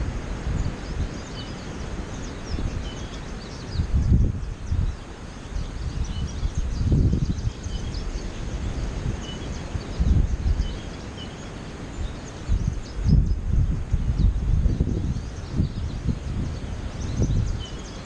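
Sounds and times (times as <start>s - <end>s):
birds chirping: 0.0s - 18.0s
wind buffeting microphone: 0.0s - 18.0s.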